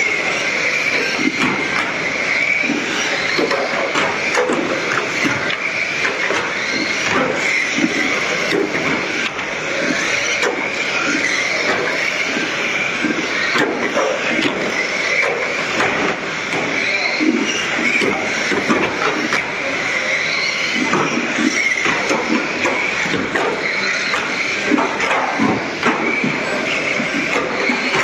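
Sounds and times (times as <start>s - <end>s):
toy cars bumping barriers: 0.0s - 28.0s
whine of toy car motors: 0.0s - 28.0s.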